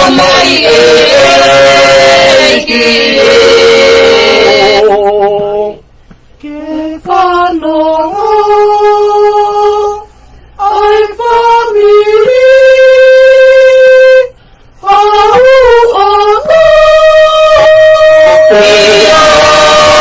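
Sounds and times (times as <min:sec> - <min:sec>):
people singing a hymn: 0:00.0 - 0:05.8, 0:06.4 - 0:20.0.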